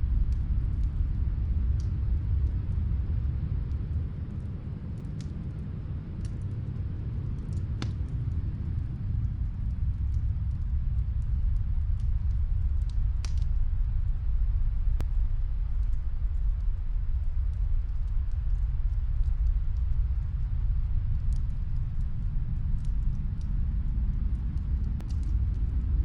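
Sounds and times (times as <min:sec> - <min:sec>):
faint fireplace crackling: 0:00.0 - 0:26.0
snowstorm wind blowing: 0:00.0 - 0:26.0.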